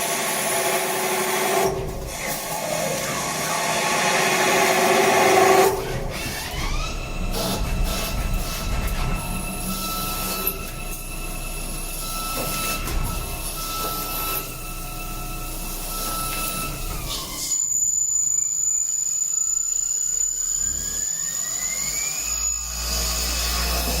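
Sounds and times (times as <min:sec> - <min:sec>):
cnc machine electric whine: 0:00.0 - 0:24.0.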